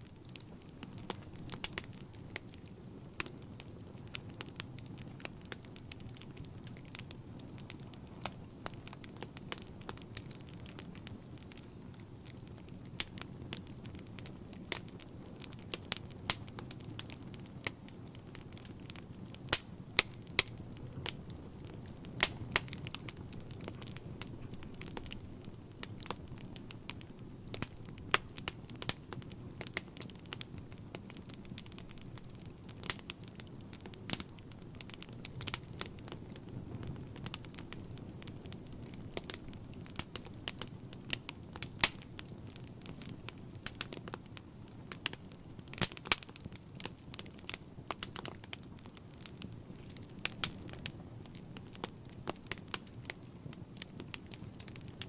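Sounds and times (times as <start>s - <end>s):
fire crackling: 0.0s - 55.0s
low rush of flame: 0.0s - 55.0s.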